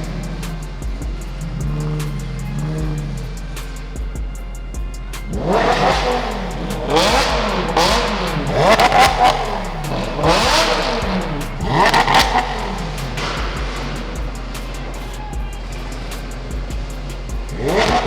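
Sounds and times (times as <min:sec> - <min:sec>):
sports car engines revving: 0:00.0 - 0:18.0.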